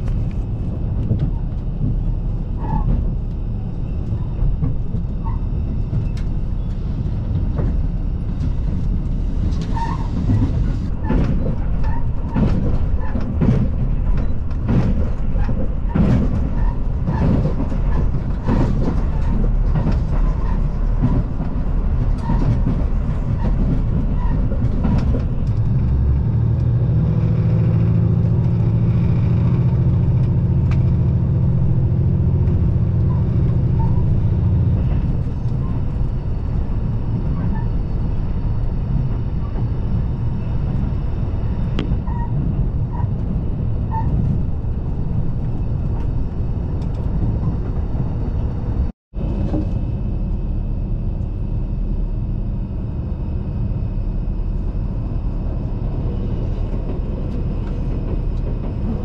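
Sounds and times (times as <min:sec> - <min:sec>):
diesel engine drone: 0:00.0 - 0:59.0
wheels rumbling on rail: 0:00.0 - 0:59.0.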